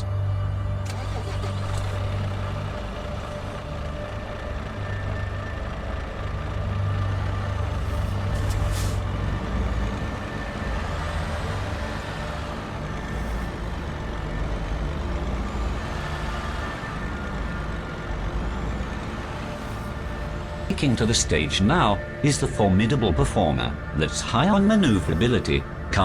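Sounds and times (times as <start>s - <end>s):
heavy truck engine running: 0.0s - 26.0s.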